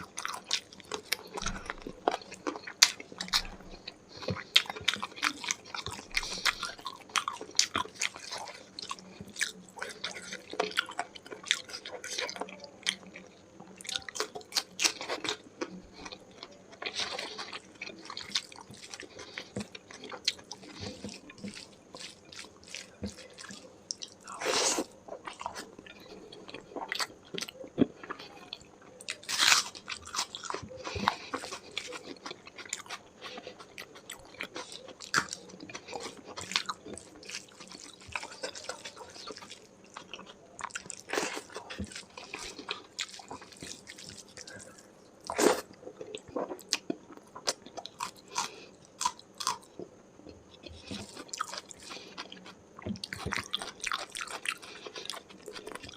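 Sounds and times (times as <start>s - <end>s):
food crunching: 0.0s - 55.9s
wet chewing: 0.0s - 55.9s.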